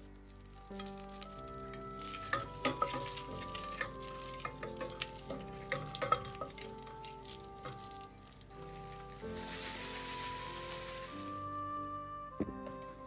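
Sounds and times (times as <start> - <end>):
butter sizzling in a pot: 0.0 - 11.5
soft background music: 0.0 - 13.0.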